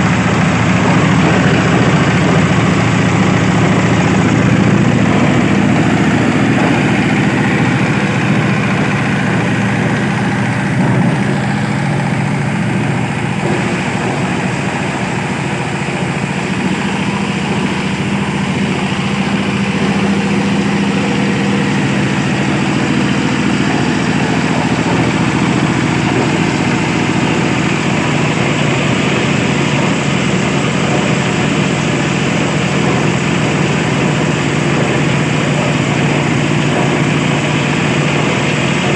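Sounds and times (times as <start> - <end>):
compost machine engine humming: 0.0 - 38.9.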